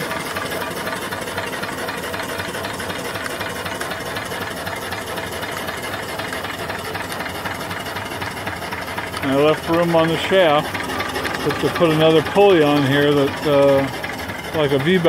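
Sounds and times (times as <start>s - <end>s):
steam engine clattering: 0.0s - 15.0s.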